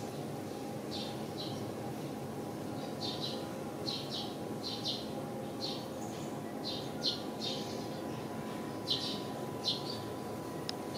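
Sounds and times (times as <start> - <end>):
low background hum: 0.0 - 10.9
small birds chirping: 0.9 - 2.2, 2.8 - 10.9.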